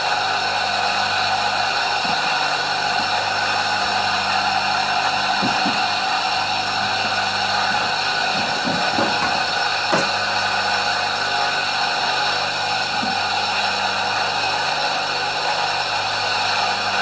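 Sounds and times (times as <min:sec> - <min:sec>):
rice mill motor whirring hum: 0:00.0 - 0:17.0.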